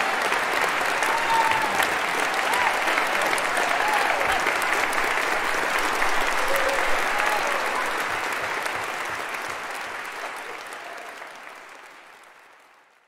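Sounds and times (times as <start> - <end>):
audience applause: 0.0 - 13.0.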